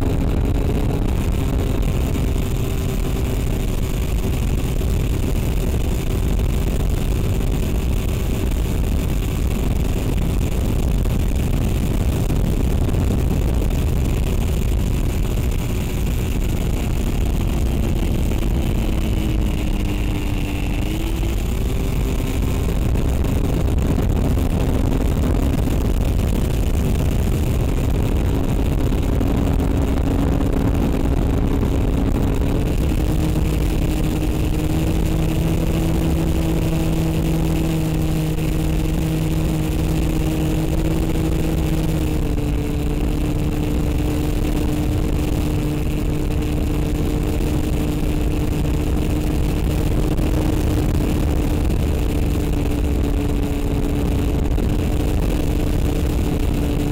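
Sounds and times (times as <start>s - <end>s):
electric motor and propeller drone: 0.0s - 56.9s
wind rumble on microphone: 0.0s - 56.9s.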